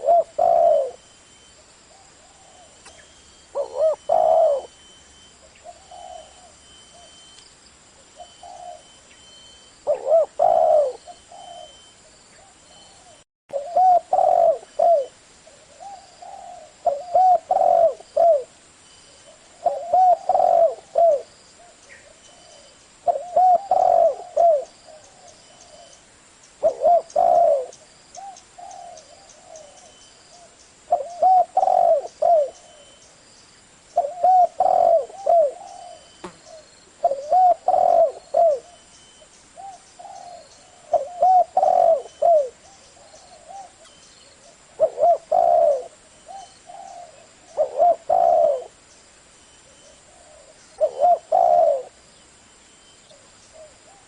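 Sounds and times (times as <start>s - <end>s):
dove cooing: 0.0s - 1.1s, 1.9s - 7.2s, 8.0s - 9.0s, 9.8s - 26.0s, 26.6s - 33.0s, 34.0s - 38.9s, 39.6s - 48.8s, 49.6s - 52.0s, 53.1s - 54.0s.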